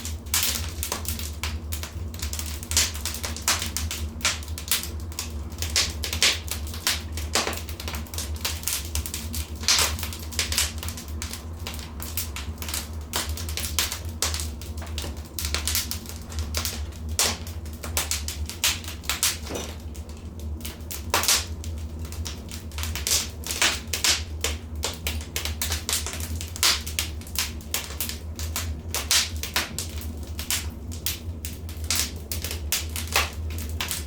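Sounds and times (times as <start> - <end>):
low rumble of burning fire: 0.0 - 34.0
wood fire crackling and popping: 0.0 - 34.0.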